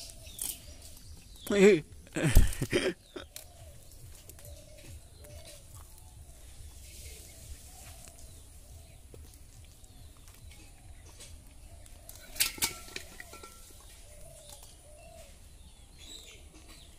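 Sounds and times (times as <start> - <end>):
doves cooing: 0.0 - 16.9.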